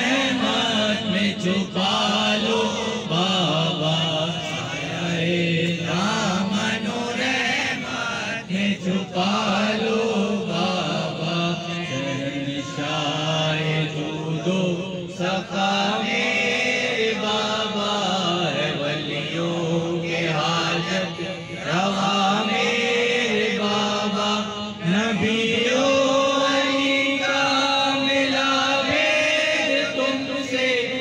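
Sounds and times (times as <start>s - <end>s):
men singing in unison: 0.0s - 31.0s.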